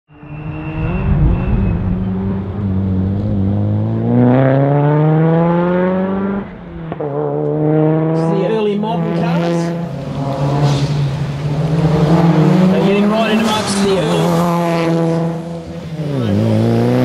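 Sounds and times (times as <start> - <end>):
rally car engine revving: 0.1 - 17.0.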